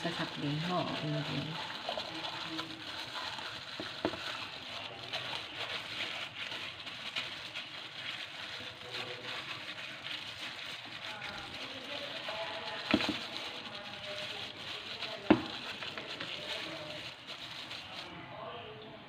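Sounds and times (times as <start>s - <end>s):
fish sizzling on a grill: 0.0s - 18.1s.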